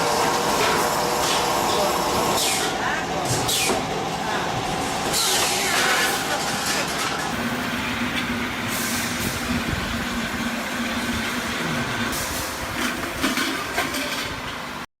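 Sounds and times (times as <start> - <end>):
workshop machine motor hum: 0.0 - 13.8.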